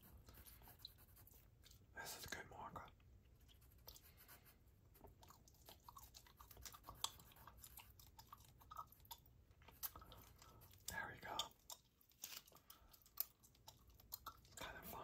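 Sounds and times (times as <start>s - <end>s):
gum chewing: 1.2s - 1.9s, 2.8s - 4.2s, 5.0s - 15.0s.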